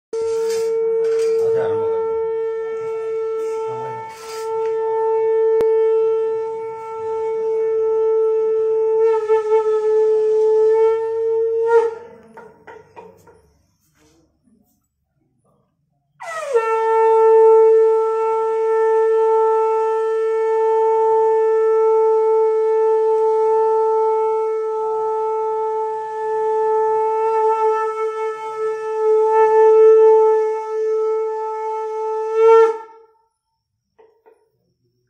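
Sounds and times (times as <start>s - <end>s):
conch shell blown: 0.1s - 13.2s, 16.2s - 34.5s.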